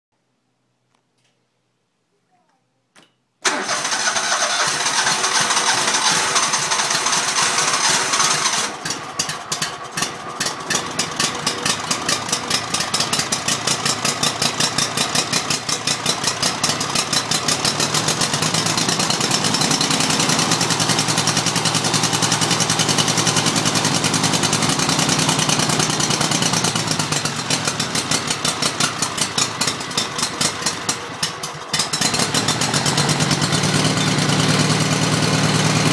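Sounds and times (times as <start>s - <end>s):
mower engine running roughly: 3.4s - 35.9s.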